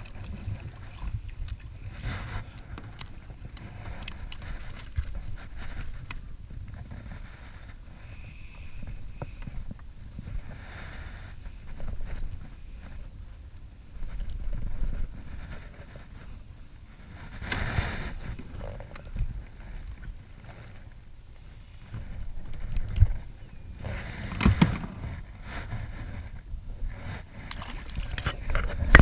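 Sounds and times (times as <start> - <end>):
wind buffeting microphone: 0.0 - 20.4, 21.0 - 29.0
choppy water: 0.0 - 29.0.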